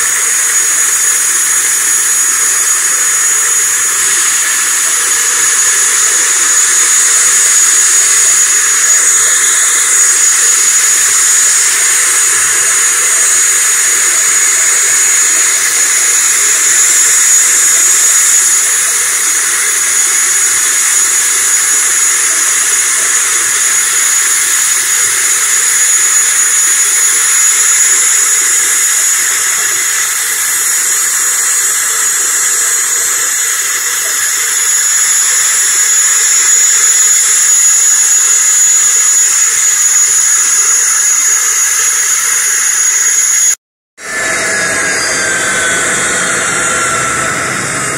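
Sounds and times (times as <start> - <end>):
turboprop engine whine and hiss: 0.0 - 47.9.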